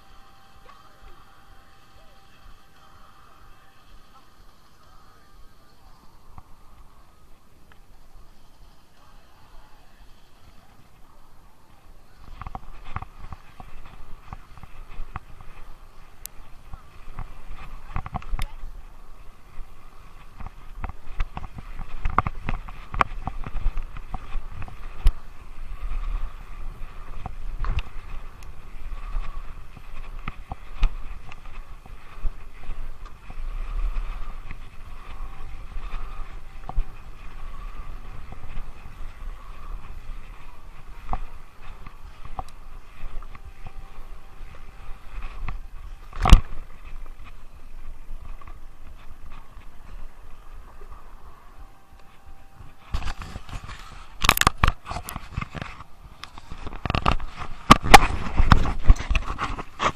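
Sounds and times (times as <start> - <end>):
rustling: 0.0 - 59.9
wind and tyres rumbling: 0.0 - 59.9
bike clicks and rattles: 9.9 - 51.1, 52.0 - 59.9.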